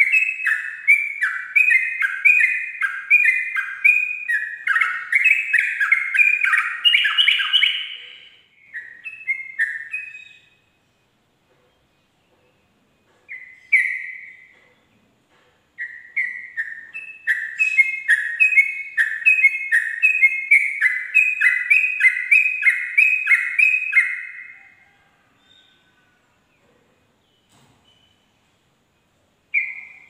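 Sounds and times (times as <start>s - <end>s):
bird singing whistled notes: 0.0s - 11.1s, 11.9s - 14.6s, 15.8s - 26.0s, 27.2s - 28.4s, 29.5s - 30.0s.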